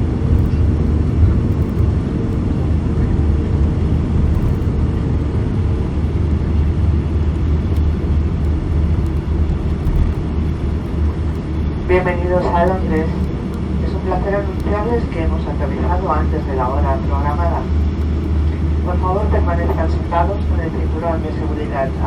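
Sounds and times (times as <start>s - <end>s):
aircraft cabin low rumble: 0.0s - 22.0s
faint steady hum: 0.0s - 22.0s.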